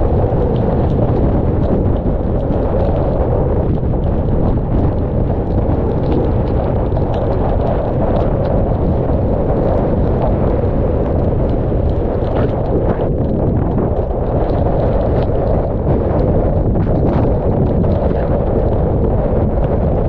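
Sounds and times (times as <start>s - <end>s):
rain ticks: 0.0s - 20.0s
wind buffeting microphone: 0.0s - 20.0s.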